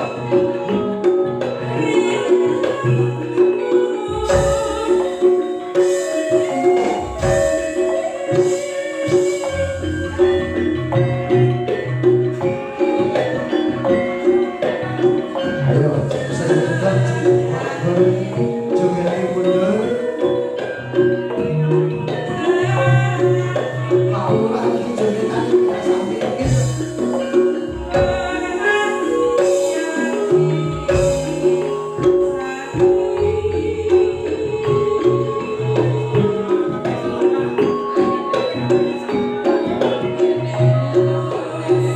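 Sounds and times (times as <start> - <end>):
percussion and mallet instrument music: 0.0 - 41.9.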